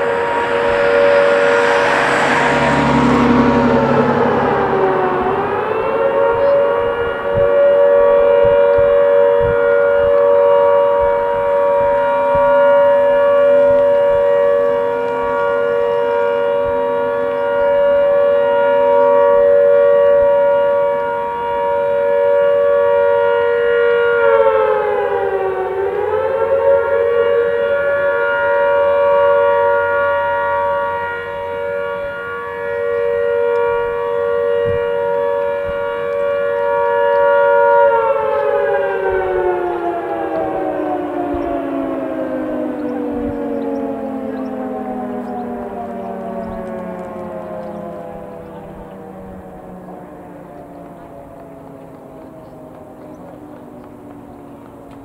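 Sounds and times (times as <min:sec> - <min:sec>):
shipyard siren chord: 0:00.0 - 0:55.0.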